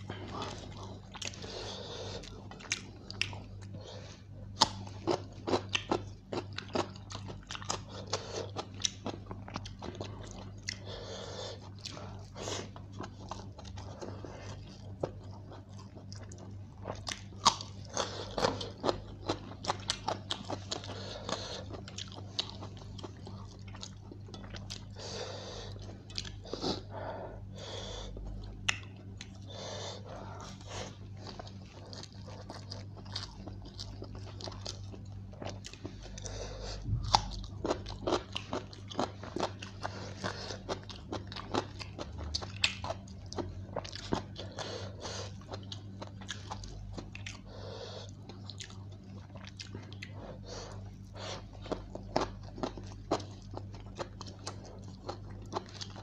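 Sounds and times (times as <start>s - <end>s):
crunchy chewing: 0.0s - 56.0s
low steady hum: 0.0s - 56.0s.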